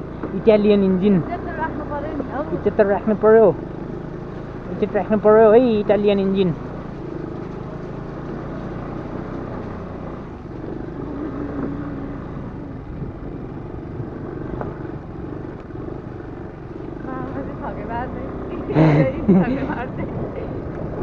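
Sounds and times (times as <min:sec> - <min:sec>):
scooter engine running under load: 0:00.0 - 0:21.0.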